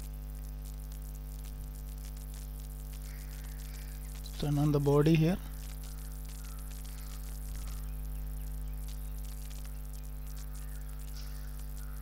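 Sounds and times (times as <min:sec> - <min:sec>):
faint ticks: 0:00.0 - 0:04.4, 0:05.5 - 0:12.0
electrical mains hum: 0:00.0 - 0:12.0.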